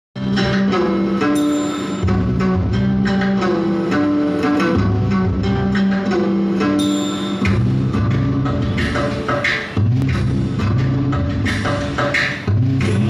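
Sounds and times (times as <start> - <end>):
plucked-string music with bass line: 0.2 - 13.0.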